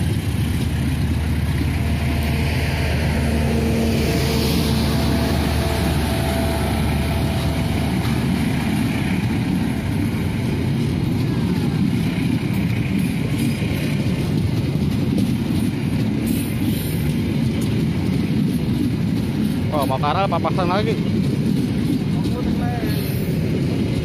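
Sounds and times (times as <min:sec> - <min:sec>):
train wheels rumbling and clattering: 0:00.0 - 0:24.0.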